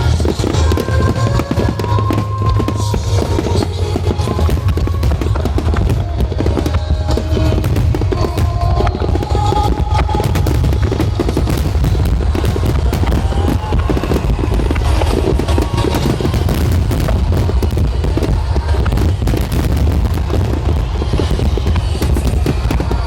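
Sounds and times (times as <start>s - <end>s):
fireworks bursting rumble: 0.0s - 23.0s
fireworks crackling: 0.0s - 23.0s
music over loudspeakers: 0.0s - 23.0s.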